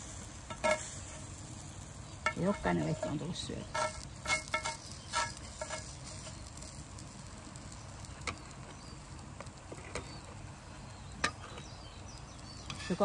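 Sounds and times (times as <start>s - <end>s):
batter sizzling on a griddle: 0.0s - 13.0s.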